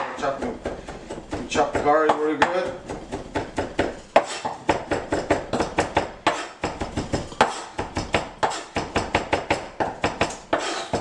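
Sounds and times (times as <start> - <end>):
knife chopping on cutting board: 0.0 - 11.0.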